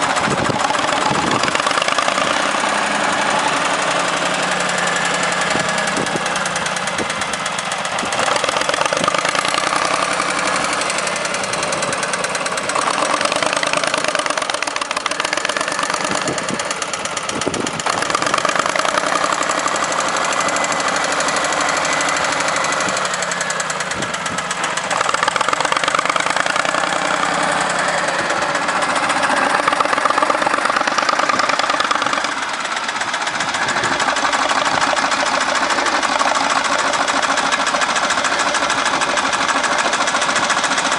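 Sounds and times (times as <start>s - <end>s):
diesel engine knocking: 0.0s - 40.9s.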